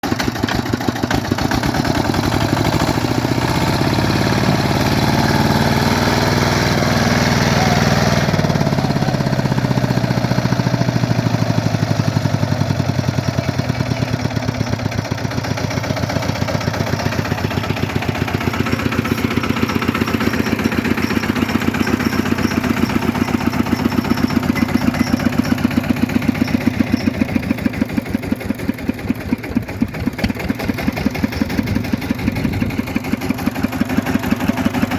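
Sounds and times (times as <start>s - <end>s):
small engine chugging: 0.0s - 34.9s.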